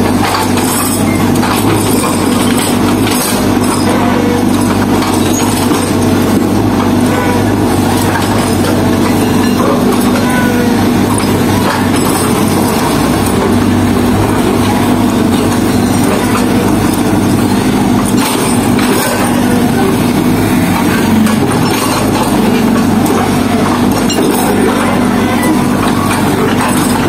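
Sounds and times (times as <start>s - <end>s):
diesel engine running: 0.0s - 27.0s
knocks and clanks: 0.0s - 27.0s.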